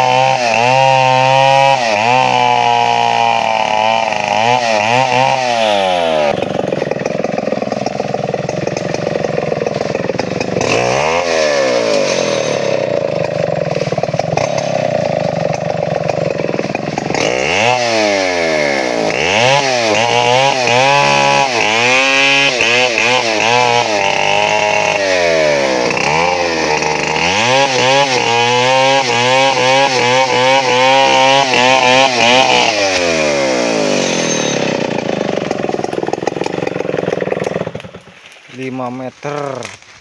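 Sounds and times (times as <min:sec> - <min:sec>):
chainsaw revving while cutting wood: 0:00.0 - 0:39.8.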